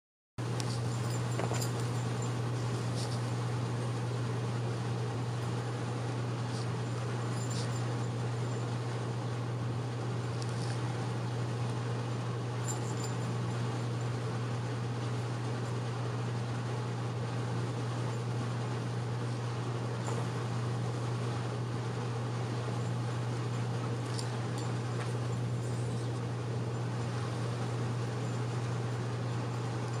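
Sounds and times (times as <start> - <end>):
steady low hum: 0.4 - 30.0.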